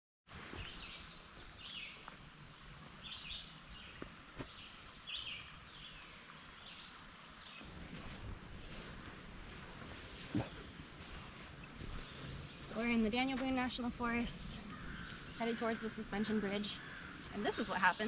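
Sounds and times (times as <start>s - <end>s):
songbirds chirping: 0.3s - 7.8s, 8.6s - 18.0s
background hiss: 0.4s - 18.0s.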